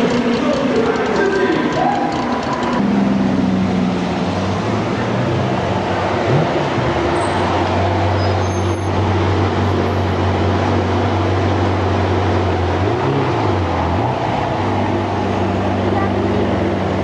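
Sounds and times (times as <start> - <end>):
car engine low drone: 0.0 - 17.0.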